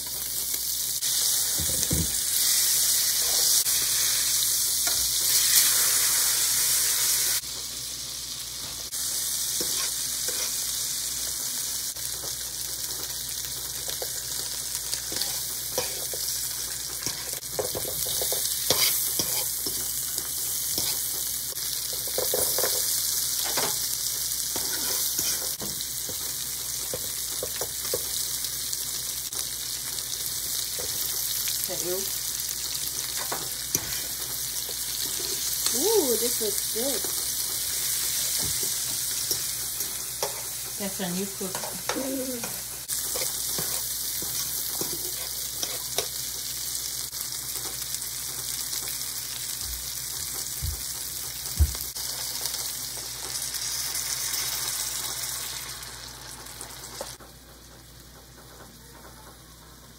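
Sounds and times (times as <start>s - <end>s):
fish and vegetables sizzling in oil: 0.0s - 59.9s.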